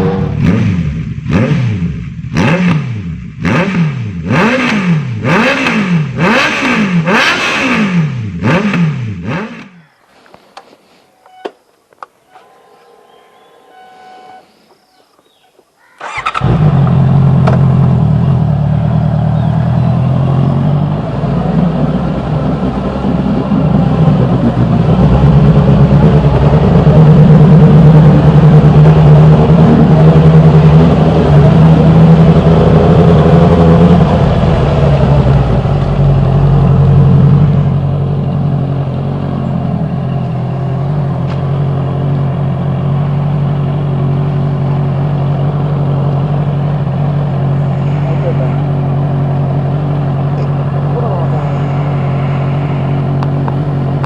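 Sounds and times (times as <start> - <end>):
motorcycle engine revving: 0.0 - 10.0, 16.0 - 54.0.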